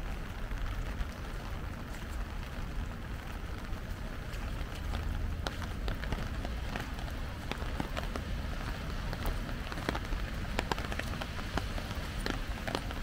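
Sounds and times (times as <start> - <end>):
rain: 0.0 - 13.0
raindrops tapping on umbrella: 0.0 - 13.0.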